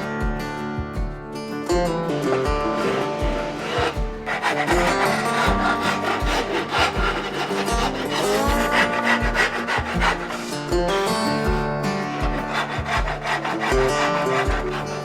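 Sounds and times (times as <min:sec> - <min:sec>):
music with bass beat: 0:00.0 - 0:14.9
rasp scraping wood: 0:02.0 - 0:15.0.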